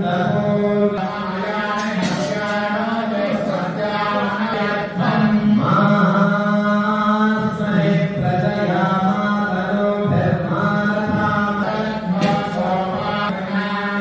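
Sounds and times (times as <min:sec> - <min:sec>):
voices chanting mantras: 0:00.0 - 0:14.0.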